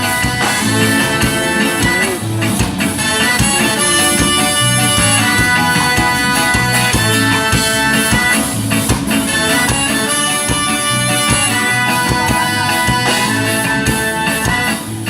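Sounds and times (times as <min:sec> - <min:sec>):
ska band playing: 0:00.0 - 0:15.0.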